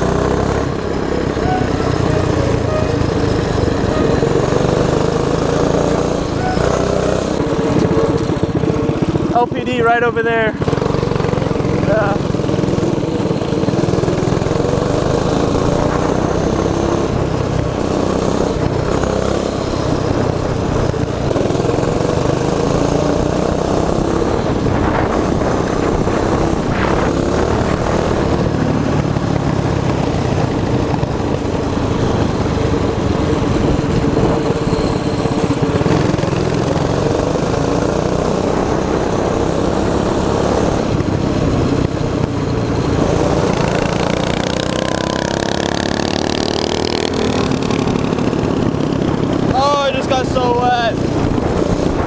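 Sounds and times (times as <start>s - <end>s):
mini bike engine running: 0.0s - 52.0s.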